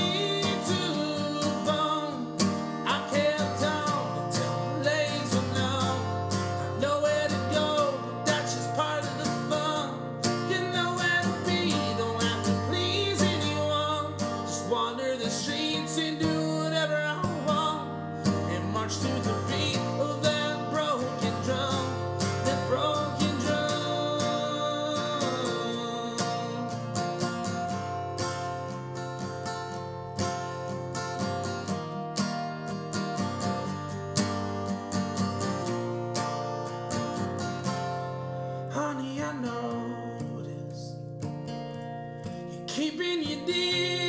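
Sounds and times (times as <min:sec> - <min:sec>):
strummed acoustic guitar: 0:00.0 - 0:44.0.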